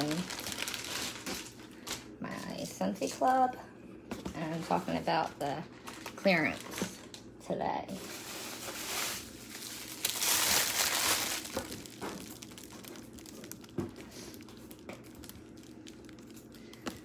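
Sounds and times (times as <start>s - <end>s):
packaging crinkling and rustling: 0.0s - 2.6s, 4.4s - 7.3s, 7.9s - 17.0s.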